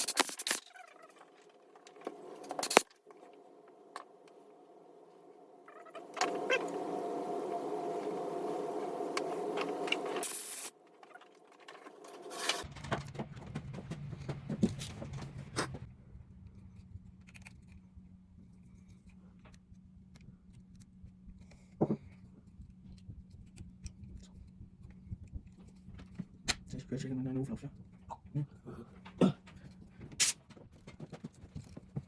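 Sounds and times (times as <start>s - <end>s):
low hum: 0.0s - 30.2s.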